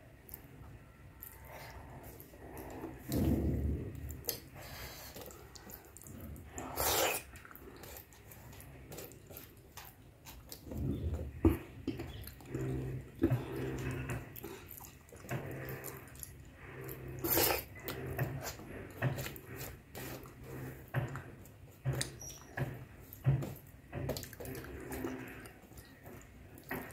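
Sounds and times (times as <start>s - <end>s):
low steady hums: 0.0s - 26.9s
wet chewing and squelching: 0.0s - 26.9s.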